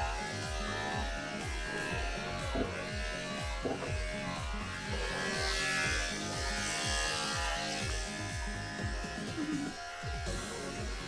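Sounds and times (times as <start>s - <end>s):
background music with steady beat: 0.0s - 11.0s
electric clippers buzzing: 0.0s - 11.0s.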